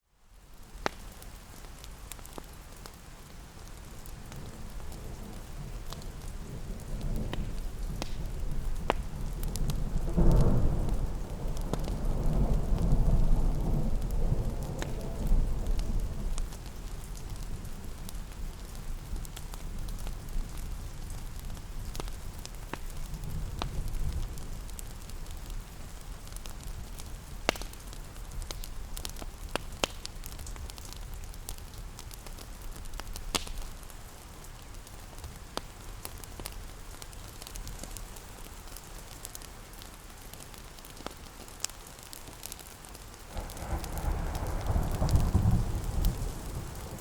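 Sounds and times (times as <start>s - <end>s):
wood fire crackling: 0.2s - 47.0s
rain hissing: 0.3s - 47.0s.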